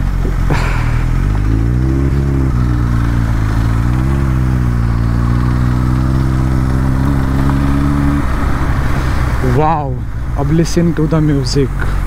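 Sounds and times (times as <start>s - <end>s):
motorcycle engine and exhaust: 0.0s - 12.0s.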